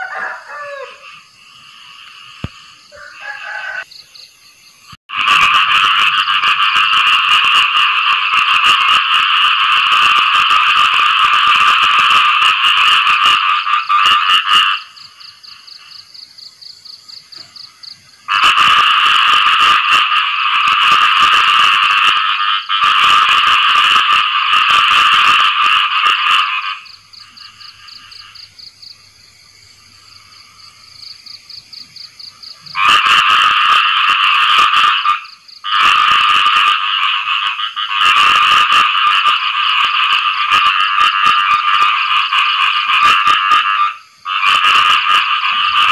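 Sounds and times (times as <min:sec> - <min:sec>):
frog chorus rattling calls: 0:00.0 - 0:08.6, 0:10.4 - 0:45.9.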